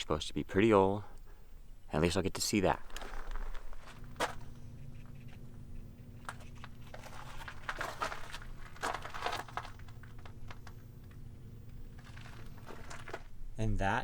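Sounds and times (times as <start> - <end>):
low background hum: 0.0 - 14.0
footsteps on gravel: 2.0 - 14.0.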